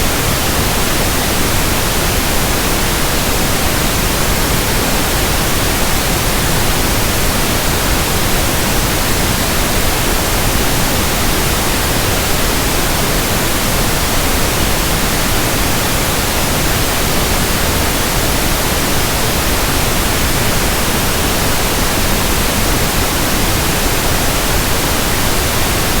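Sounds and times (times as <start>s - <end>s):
pink noise hiss: 0.0s - 26.0s.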